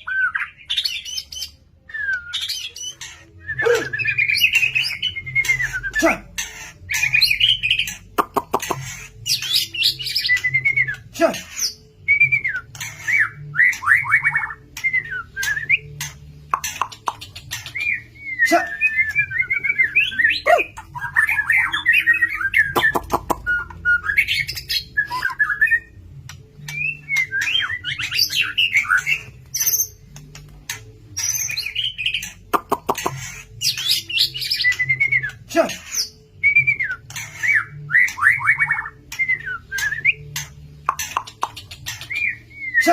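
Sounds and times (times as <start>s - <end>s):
bird singing whistled phrases: 0.0s - 8.0s, 8.6s - 30.0s, 31.2s - 42.9s.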